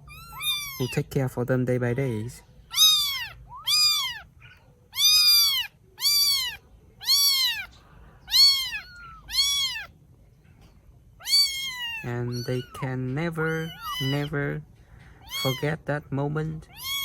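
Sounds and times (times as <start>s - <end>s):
kitten meowing: 0.0s - 1.2s, 1.9s - 10.0s, 11.2s - 14.6s, 15.2s - 15.9s, 16.5s - 17.0s.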